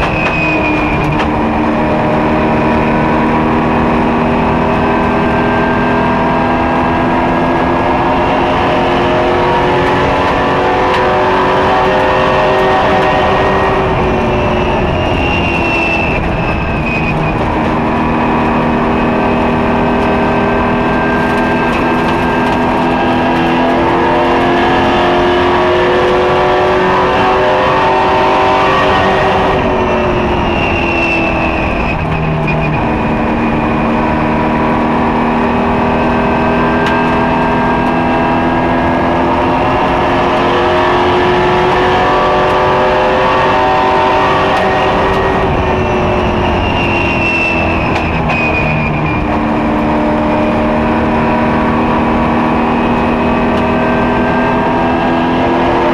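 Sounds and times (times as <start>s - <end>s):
racing engine running hard: 0.0s - 55.9s.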